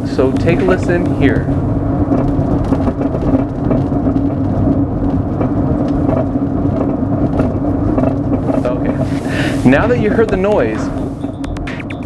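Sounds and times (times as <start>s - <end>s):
car cabin road noise: 0.0s - 12.0s
suspension knocking: 0.0s - 12.0s.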